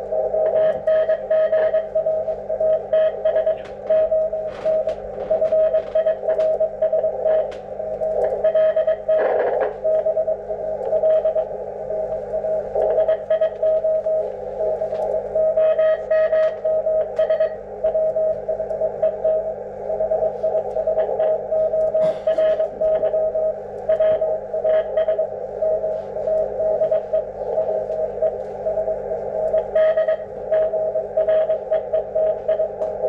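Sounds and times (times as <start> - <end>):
receiver hiss: 0.0 - 33.0
morse code tone: 0.2 - 33.0.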